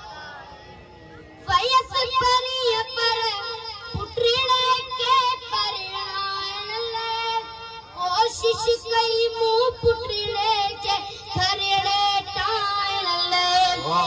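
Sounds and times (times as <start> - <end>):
boy singing into microphone: 1.4 - 14.0.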